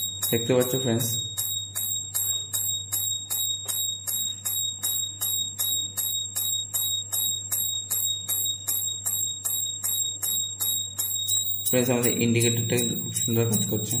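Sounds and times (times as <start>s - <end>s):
buzzer short beeps: 0.0s - 14.0s.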